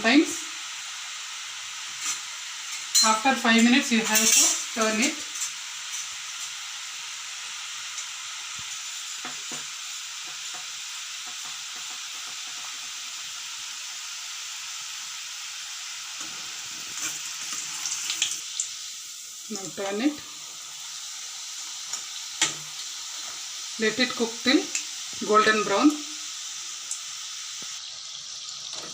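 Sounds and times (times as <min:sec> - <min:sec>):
dough sizzling in hot oil: 0:00.0 - 0:28.9.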